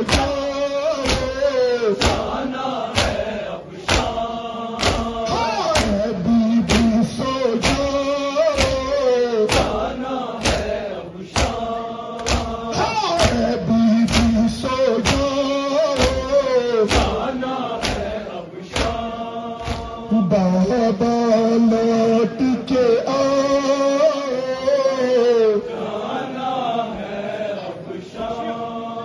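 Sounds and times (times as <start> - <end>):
rhythmic chest-beating: 0.0 - 27.5
men chanting a lament: 0.0 - 29.0.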